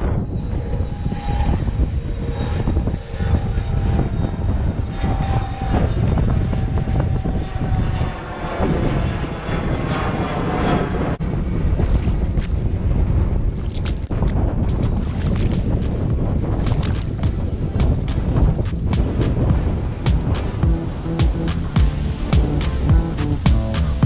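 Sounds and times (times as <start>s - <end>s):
gusty wind buffeting microphone: 0.0s - 23.9s.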